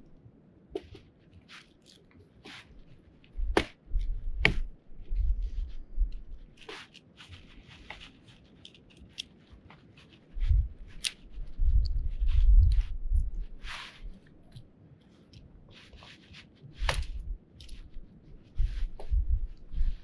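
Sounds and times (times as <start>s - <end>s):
handling scrapes and ticks: 0.8s - 3.4s, 4.0s - 20.0s.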